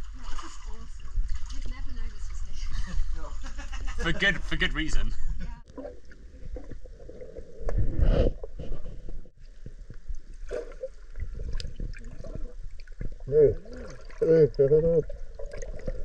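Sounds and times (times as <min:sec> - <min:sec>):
muffled water sloshing and gurgling: 0:00.0 - 0:03.1, 0:05.7 - 0:16.0.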